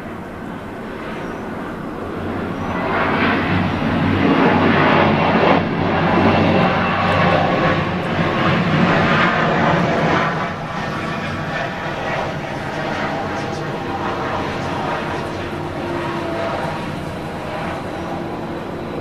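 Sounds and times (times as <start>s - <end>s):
jet engines at takeoff: 0.0s - 19.0s.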